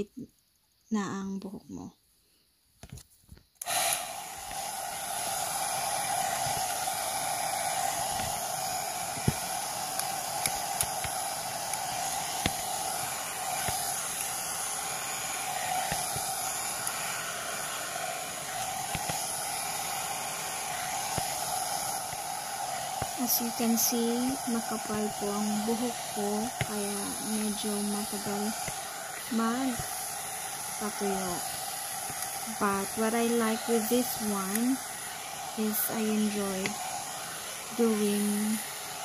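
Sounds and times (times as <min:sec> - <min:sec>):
hair dryer brush running: 0:03.6 - 0:39.0.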